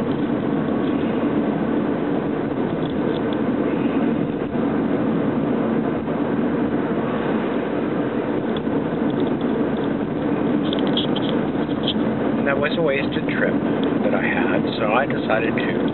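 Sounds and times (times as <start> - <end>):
car road and engine noise: 0.0 - 15.9.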